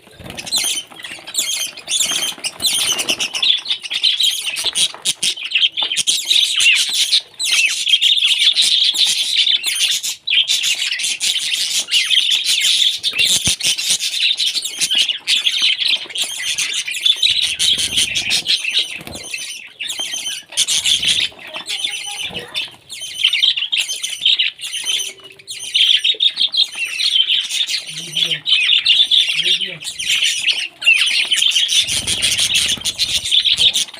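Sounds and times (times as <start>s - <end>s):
parrots squawking: 0.0s - 33.9s.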